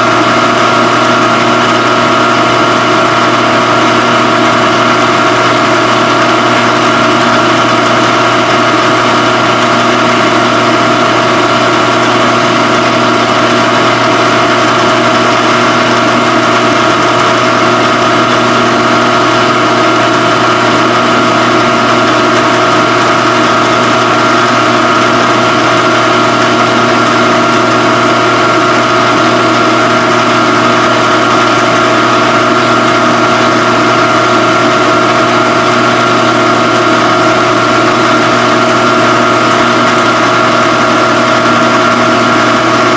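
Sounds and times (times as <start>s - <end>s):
phase converter humming: 0.0s - 42.9s.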